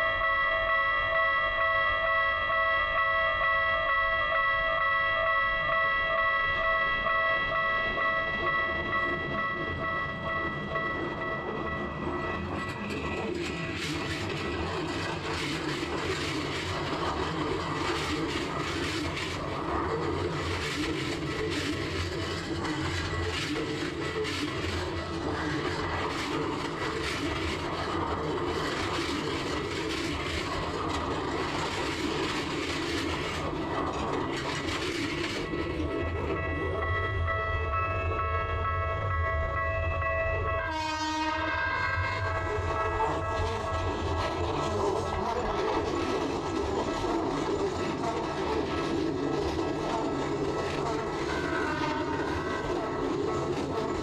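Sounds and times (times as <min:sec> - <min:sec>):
level-crossing bell ringing: 0:00.0 - 0:54.0
passing train rumble: 0:00.0 - 0:54.0.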